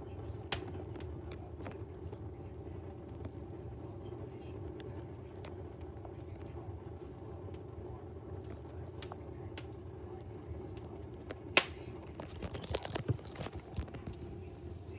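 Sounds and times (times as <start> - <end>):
fire crackling and popping: 0.0 - 14.9.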